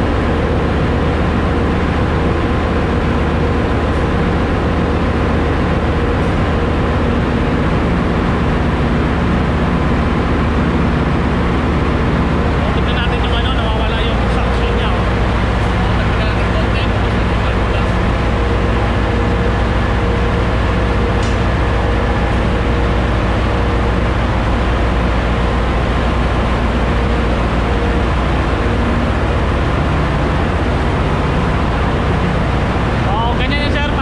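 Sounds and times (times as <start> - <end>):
engine-room machinery drone: 0.0 - 34.0
low hum tones: 0.0 - 34.0.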